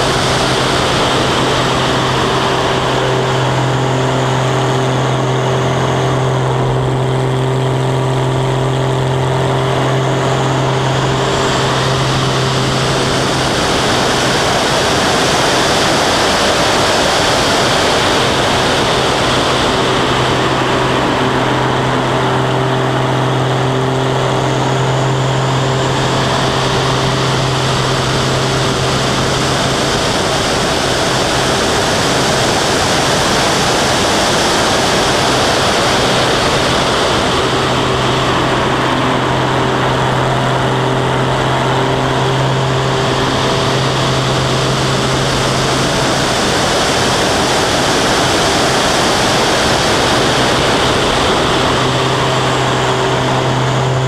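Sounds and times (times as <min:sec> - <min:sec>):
propeller plane engine drone: 0:00.0 - 0:54.0
wind rush: 0:00.0 - 0:54.0.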